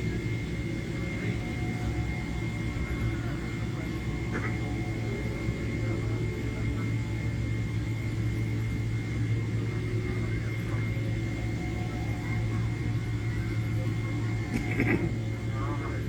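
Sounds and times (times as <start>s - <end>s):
jet engine and airflow drone: 0.0s - 16.0s
thin steady whine: 0.0s - 16.0s.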